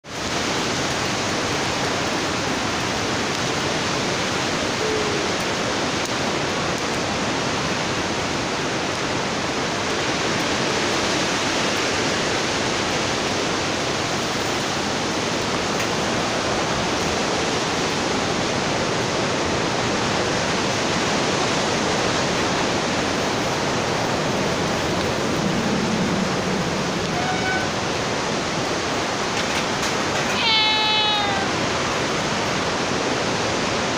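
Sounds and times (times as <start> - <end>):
strong wind blowing: 0.0 - 33.9.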